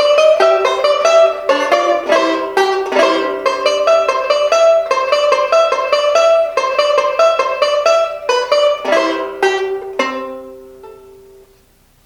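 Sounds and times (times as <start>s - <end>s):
banjo picking ragtime melody: 0.0s - 11.7s
strummed banjo chords: 0.0s - 11.7s.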